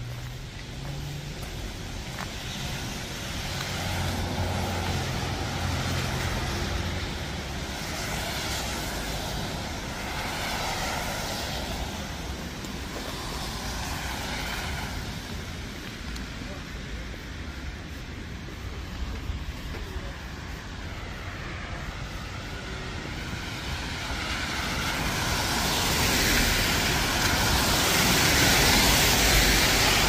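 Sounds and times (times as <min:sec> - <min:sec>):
tyre hiss on wet street: 0:00.0 - 0:30.0.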